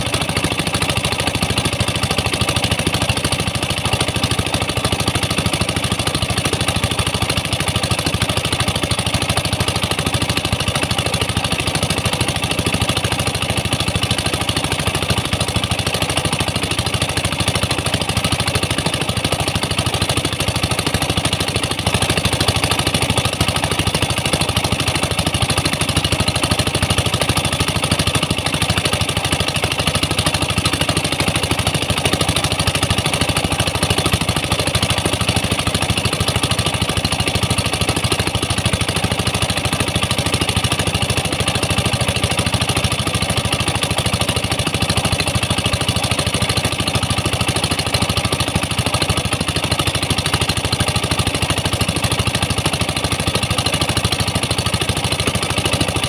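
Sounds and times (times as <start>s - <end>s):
pump engine running: 0.0s - 56.0s.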